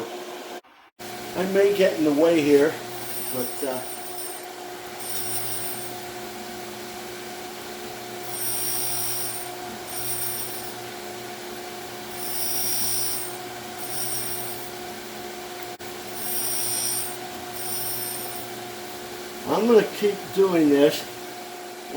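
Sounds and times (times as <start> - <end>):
grinder wheel humming: 1.0 - 19.8
high grinding hiss: 1.3 - 6.8, 7.8 - 21.0.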